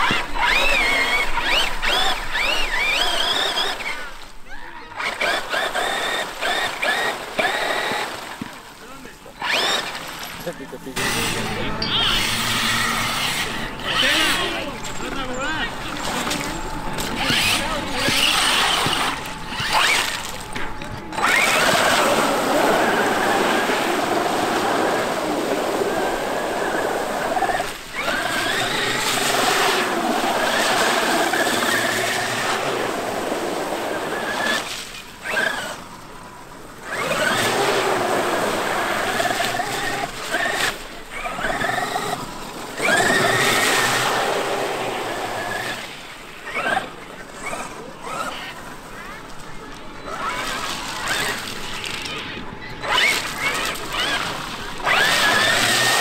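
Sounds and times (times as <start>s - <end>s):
electric toy truck motor whining: 0.0s - 8.5s, 9.4s - 49.1s, 50.0s - 56.0s.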